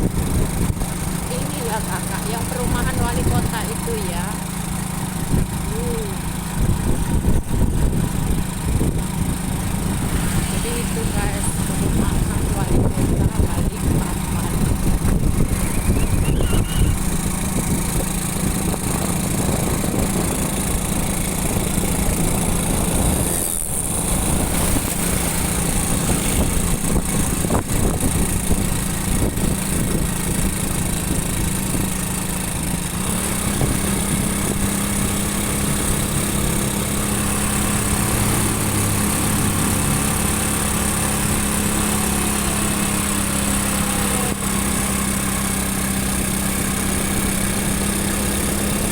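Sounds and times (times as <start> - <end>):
small motorcycle engine running: 0.0 - 48.9.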